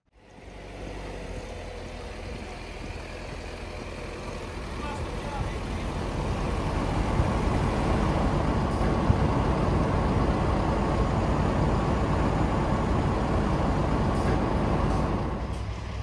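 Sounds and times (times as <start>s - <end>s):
diesel locomotive idling: 0.2s - 16.0s.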